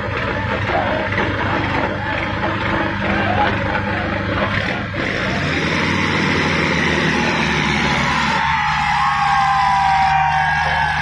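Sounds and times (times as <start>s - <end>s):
crowd shouting and cheering: 0.0s - 11.0s
tractor engines under load: 0.0s - 11.0s.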